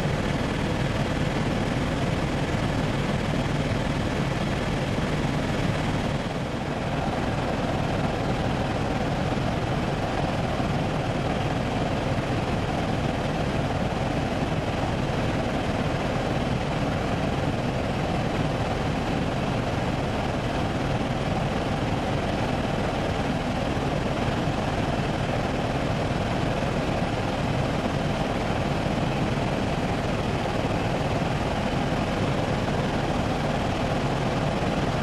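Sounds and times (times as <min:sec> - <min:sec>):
helicopter engine and rotor drone: 0:00.0 - 0:35.0.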